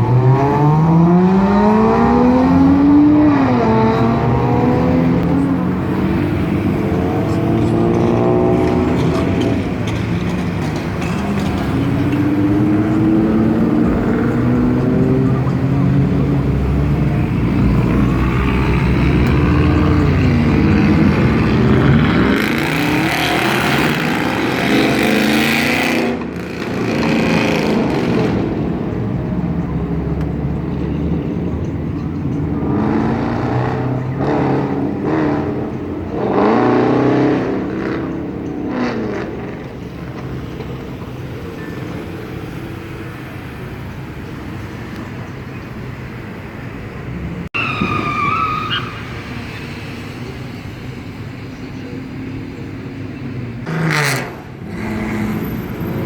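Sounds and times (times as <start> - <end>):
steady traffic noise: 0.0 - 56.0
vehicle engines revving: 0.0 - 56.0.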